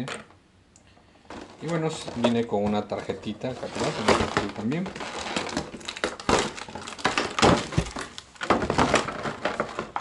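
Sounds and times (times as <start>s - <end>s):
plastic blister pack crinkling: 1.3s - 10.0s.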